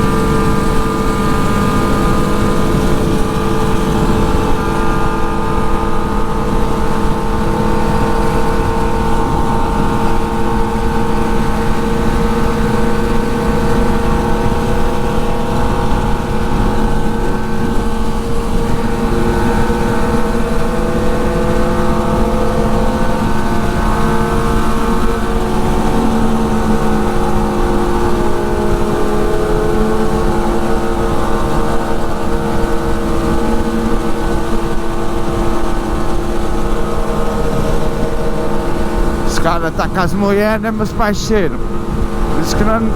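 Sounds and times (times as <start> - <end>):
motorcycle engines cruising: 0.0 - 42.9
wind and road noise: 0.0 - 42.9.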